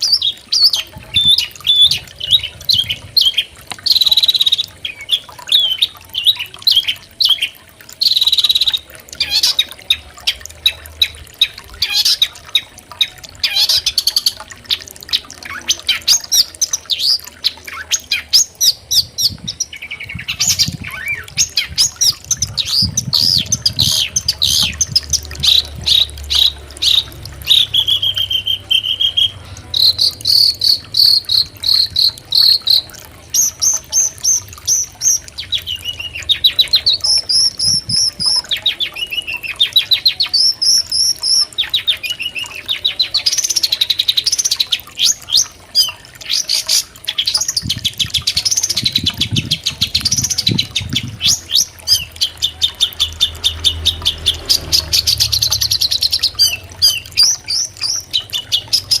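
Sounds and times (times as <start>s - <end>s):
bird song with buzzy phrases: 0.0s - 59.0s.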